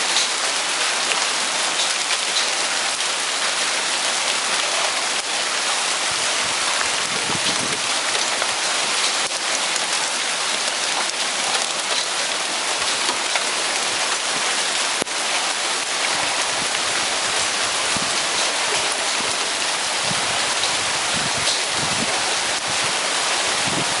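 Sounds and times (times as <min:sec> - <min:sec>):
heavy rain hiss: 0:00.0 - 0:24.0.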